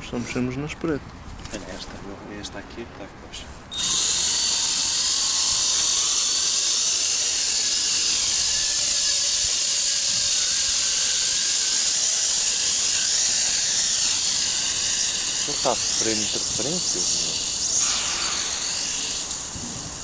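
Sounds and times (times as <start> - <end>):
drone motors whining: 3.7 - 20.0.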